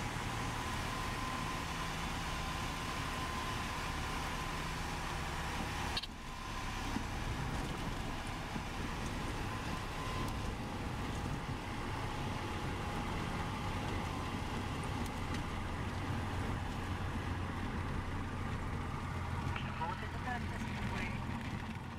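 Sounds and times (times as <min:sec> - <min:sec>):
plane engine and propeller running: 0:00.0 - 0:21.9.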